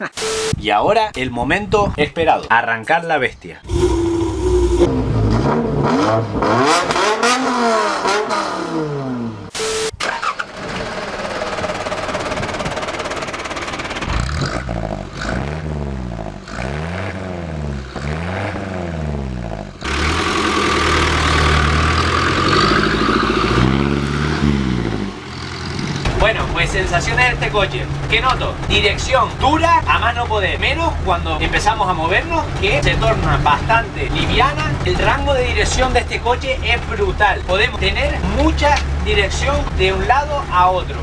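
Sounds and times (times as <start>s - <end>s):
diesel engine revving: 3.6s - 9.6s, 10.2s - 41.0s.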